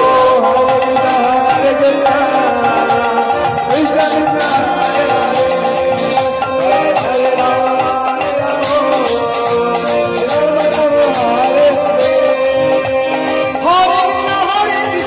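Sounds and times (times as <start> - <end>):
drum beat: 0.0 - 15.0
voices singing: 0.0 - 15.0.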